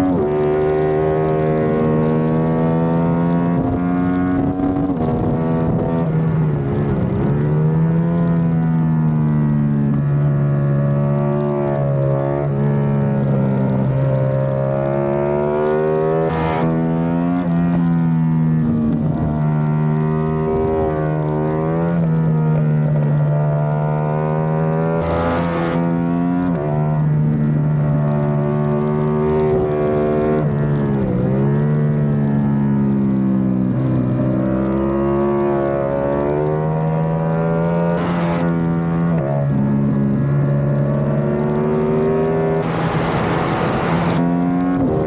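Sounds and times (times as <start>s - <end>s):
motorcycle engine revving on track: 0.0s - 45.0s.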